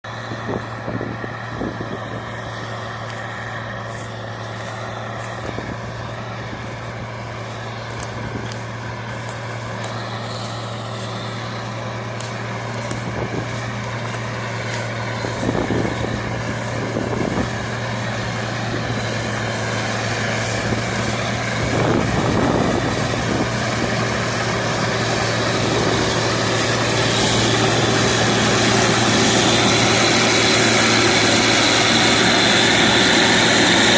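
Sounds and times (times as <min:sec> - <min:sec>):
diesel farm machine running: 0:00.0 - 0:33.9.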